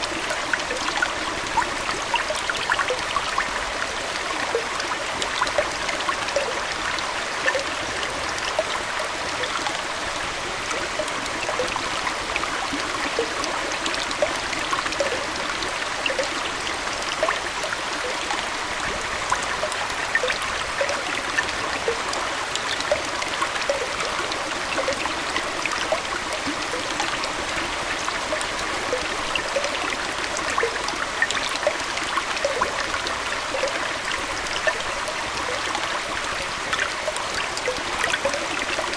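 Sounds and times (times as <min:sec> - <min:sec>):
aquarium water trickling: 0:00.0 - 0:38.9
small bubbling plinks: 0:00.0 - 0:38.9.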